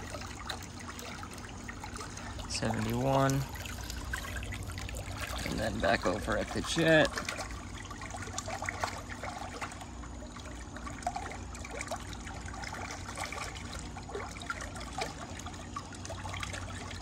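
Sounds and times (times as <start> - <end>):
faint low hum: 0.0 - 17.0
water trickling and splashing: 0.0 - 17.0.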